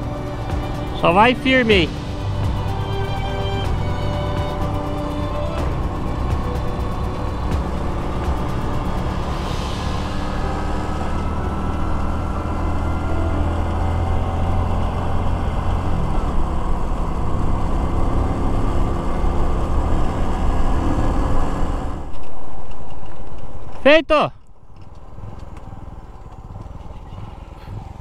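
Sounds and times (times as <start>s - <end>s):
motorcycle engine running: 0.0s - 22.1s, 24.6s - 28.0s.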